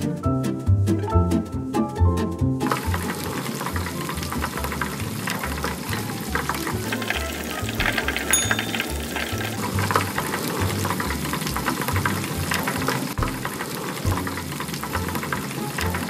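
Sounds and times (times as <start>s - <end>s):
oil sizzling and crackling: 2.5s - 16.0s.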